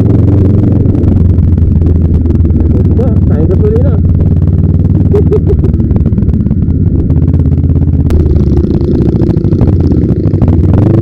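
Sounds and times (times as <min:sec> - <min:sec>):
motorcycle engine pulsing: 0:00.0 - 0:11.0.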